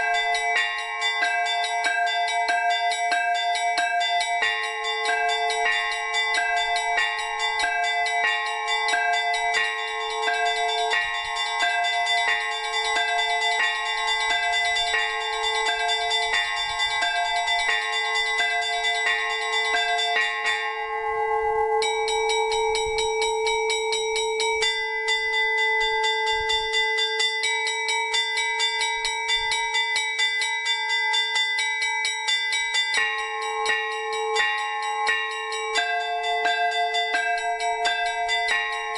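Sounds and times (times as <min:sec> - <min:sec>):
low bell ringing: 0:00.0 - 0:38.9
small high bells ringing: 0:00.0 - 0:38.9.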